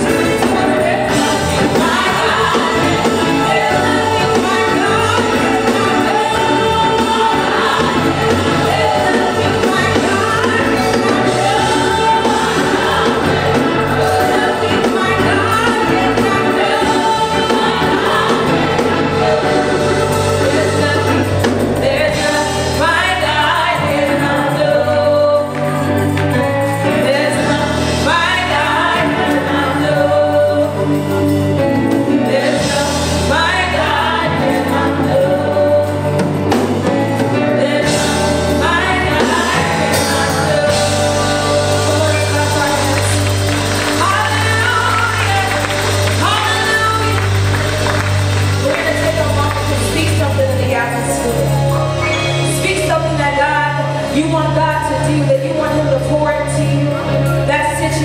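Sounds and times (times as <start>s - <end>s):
group singing gospel: 0.0s - 54.2s
instrumental accompaniment: 0.0s - 58.0s.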